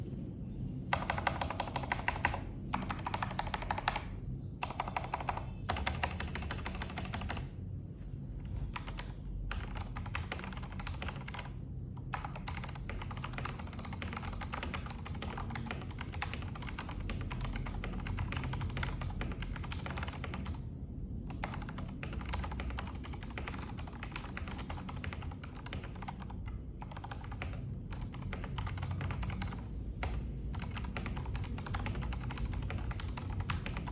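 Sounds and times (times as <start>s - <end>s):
mechanical keyboard typing: 0.9s - 7.6s, 8.6s - 20.6s, 21.3s - 33.9s.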